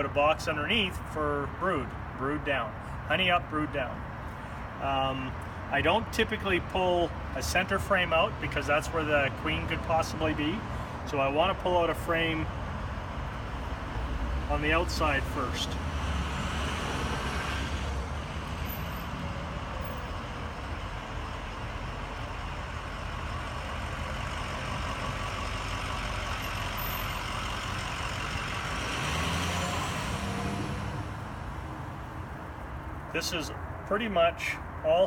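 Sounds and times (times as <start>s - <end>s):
motor vehicle rumble: 3.8s - 35.0s.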